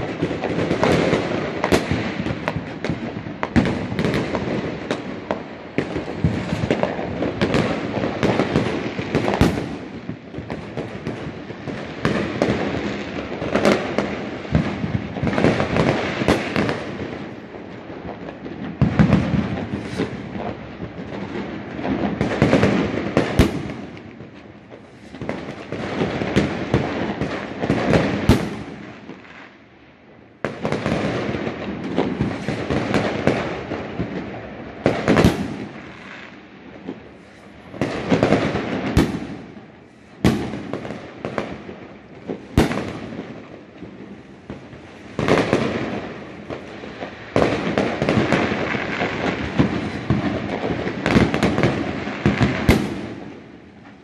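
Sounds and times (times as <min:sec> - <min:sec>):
loud firework bangs: 0:00.0 - 0:29.5, 0:30.3 - 0:54.0
fireworks bangs and crackling: 0:00.0 - 0:54.0.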